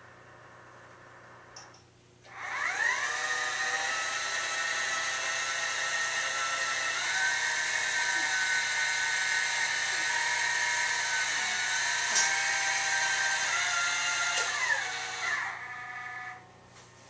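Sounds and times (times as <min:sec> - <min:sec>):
telescope motors whining: 0:02.3 - 0:16.5.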